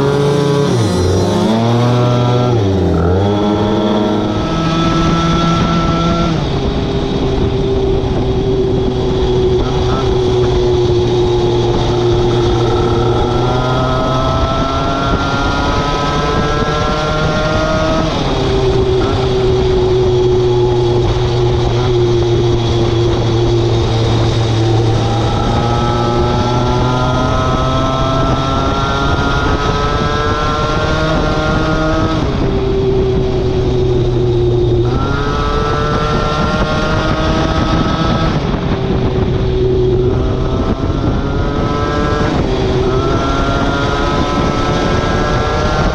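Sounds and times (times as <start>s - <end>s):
moped engine accelerating: 0.0s - 45.9s.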